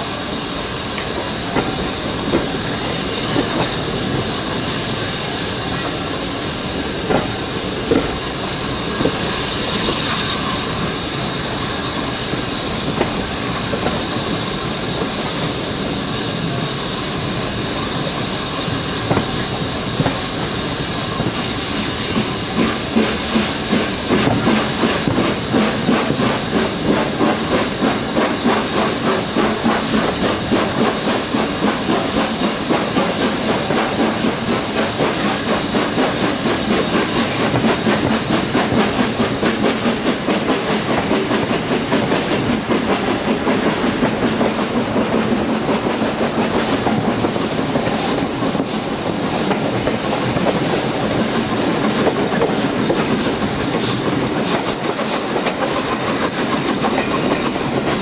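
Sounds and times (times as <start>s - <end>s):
steam locomotive exhaust and running: 0.0s - 58.0s.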